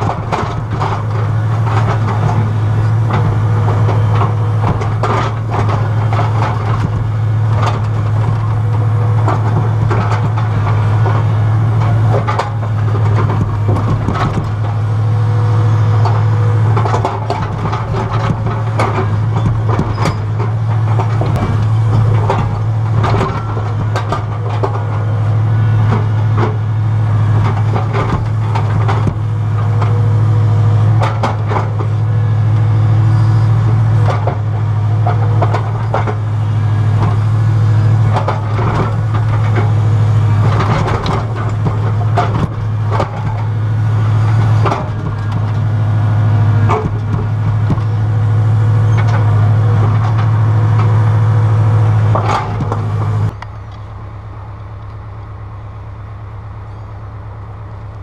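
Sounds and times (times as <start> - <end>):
excavator engine humming: 0.0 - 58.0.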